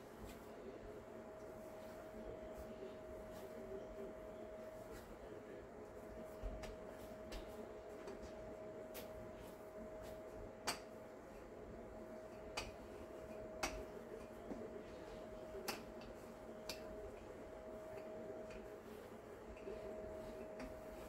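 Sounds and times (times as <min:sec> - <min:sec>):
faint steady hum: 0:00.0 - 0:21.0
rolling pin rolling dough: 0:00.0 - 0:21.0.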